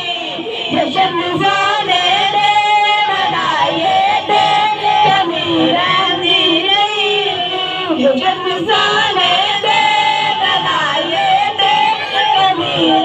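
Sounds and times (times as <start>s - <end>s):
boys singing into microphones: 0.0s - 13.0s.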